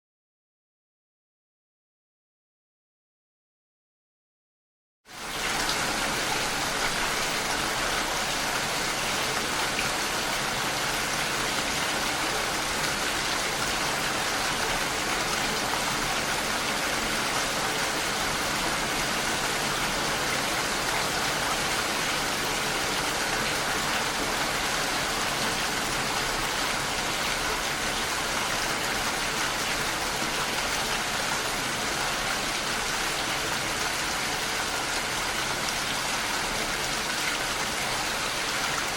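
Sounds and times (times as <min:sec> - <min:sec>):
steady rain falling: 0:05.1 - 0:38.9.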